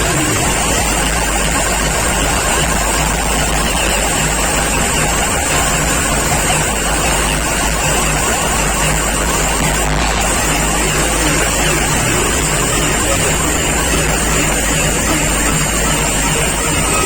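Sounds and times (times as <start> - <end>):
loud bass-heavy music: 0.0 - 17.0.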